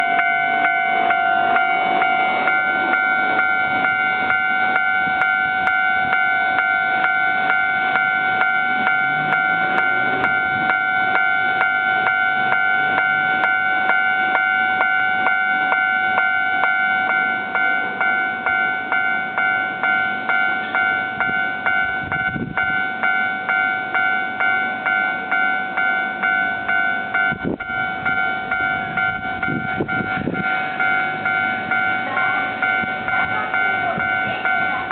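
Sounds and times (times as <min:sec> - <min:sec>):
level crossing bell clanging: 0:00.0 - 0:34.9
train passing: 0:00.0 - 0:34.9.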